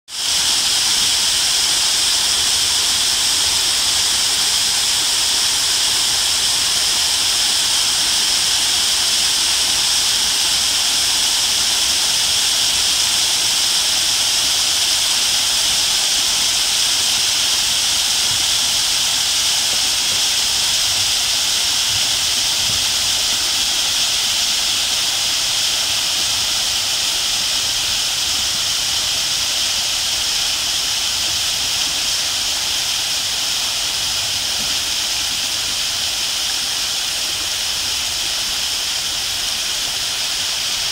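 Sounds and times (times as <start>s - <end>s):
water pouring over waterfall: 0.1s - 40.9s.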